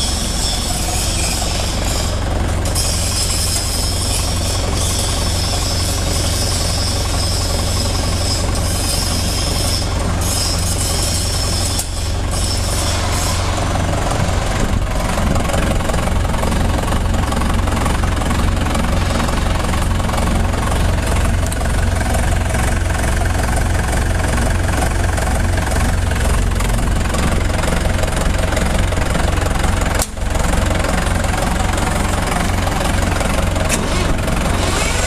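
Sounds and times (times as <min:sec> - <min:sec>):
concrete pump deep hum: 0:00.0 - 0:35.0.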